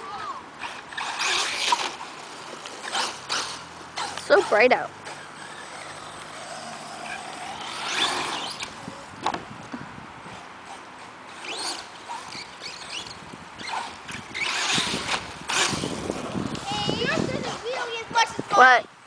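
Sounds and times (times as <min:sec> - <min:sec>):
electric motors whining: 0:00.0 - 0:18.7
rough running noise: 0:00.0 - 0:18.8.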